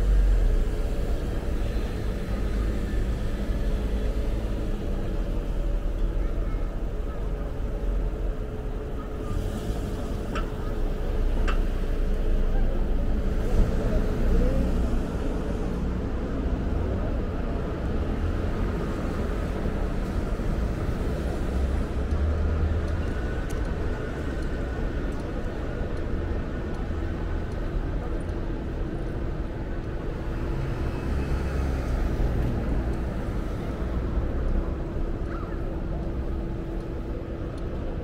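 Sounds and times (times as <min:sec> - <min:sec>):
faint voices of passers-by: 0:00.0 - 0:38.0
road traffic rumble: 0:00.0 - 0:38.0.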